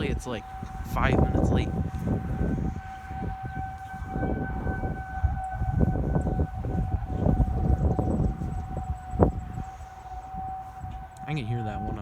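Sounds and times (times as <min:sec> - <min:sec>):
low uneven rumbling: 0:00.0 - 0:12.0
warning siren steady tone: 0:00.0 - 0:12.0.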